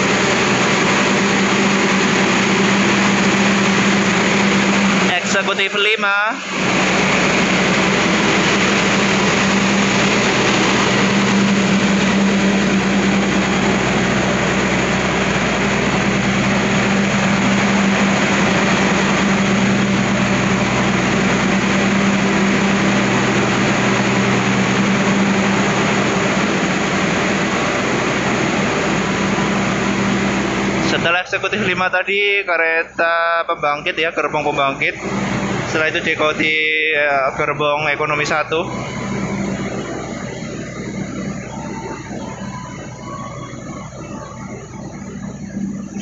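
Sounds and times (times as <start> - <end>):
diesel generator droning: 0.0 - 46.0.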